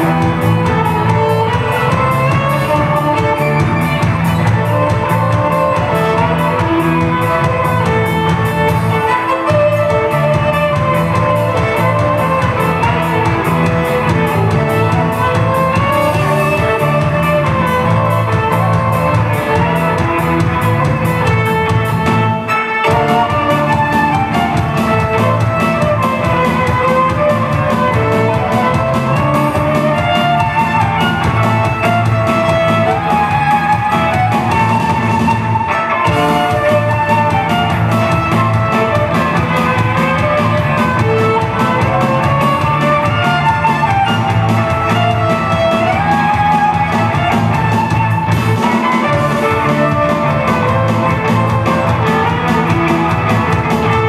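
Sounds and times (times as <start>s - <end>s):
live band playing: 0.0s - 54.0s
violin melody: 0.0s - 54.0s.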